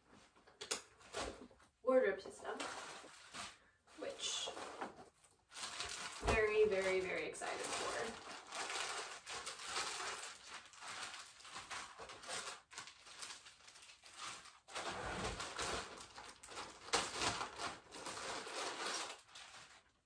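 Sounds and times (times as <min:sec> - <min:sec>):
plastic bag crinkling: 0:02.4 - 0:20.0.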